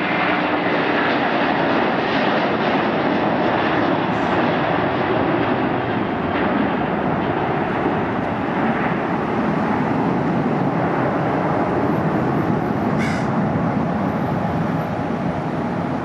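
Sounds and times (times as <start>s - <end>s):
jet airliner engines roaring: 0.0s - 16.0s.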